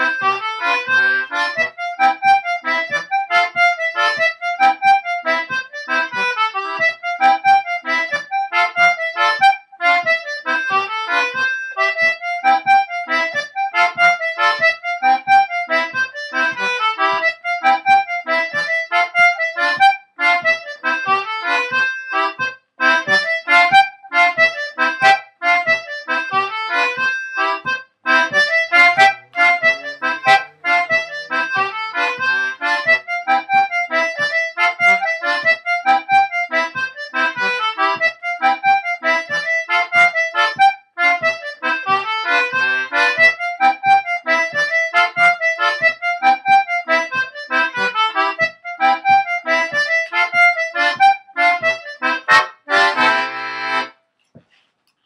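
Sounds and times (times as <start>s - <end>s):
concertina playing a dance tune: 0.0s - 54.0s.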